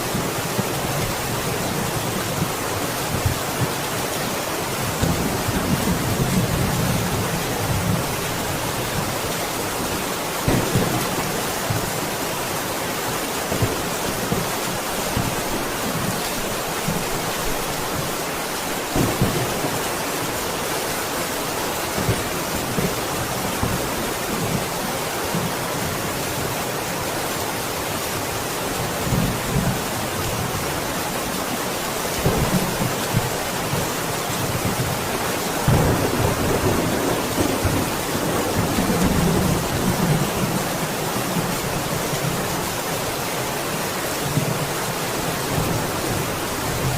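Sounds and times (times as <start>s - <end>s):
heavy rain: 0.0s - 46.9s.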